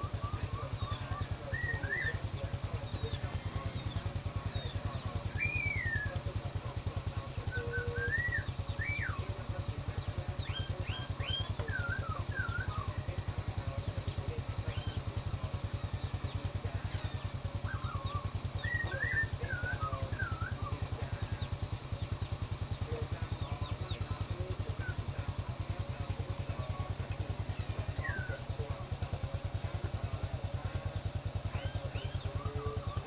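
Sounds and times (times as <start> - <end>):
birds chirping: 0.0 - 33.0
small engine idling: 0.0 - 33.0.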